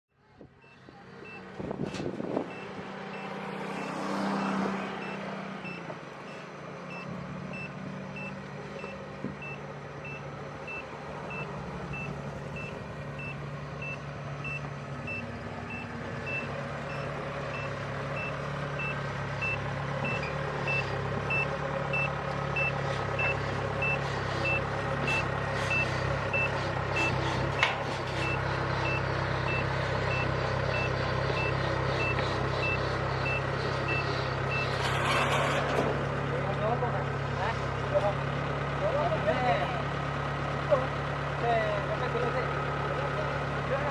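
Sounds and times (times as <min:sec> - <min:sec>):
diesel engine running: 0:00.1 - 0:43.9.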